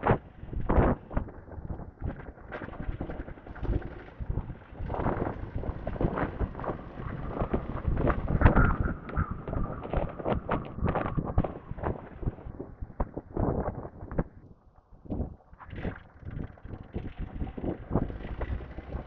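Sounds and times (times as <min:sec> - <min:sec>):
motorcycle engine and road rumble: 0:00.0 - 0:19.0
wind buffeting microphone: 0:00.0 - 0:19.0.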